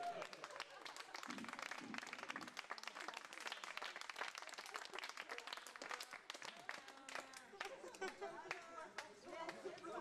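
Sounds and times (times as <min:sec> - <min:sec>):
crowd applauding: 0:00.0 - 0:09.1.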